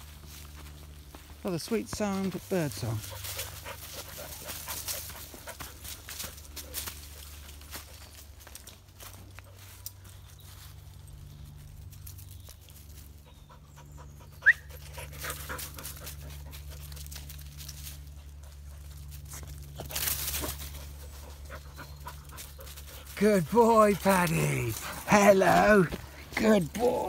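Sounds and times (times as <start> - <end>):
paws pattering on dry leaves: 0.0 - 27.0
dogs panting: 2.0 - 10.0, 13.1 - 27.0.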